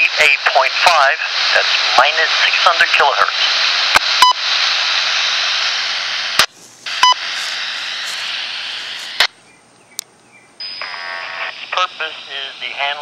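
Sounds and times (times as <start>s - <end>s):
radio static hiss: 0.0s - 9.4s, 10.8s - 13.0s.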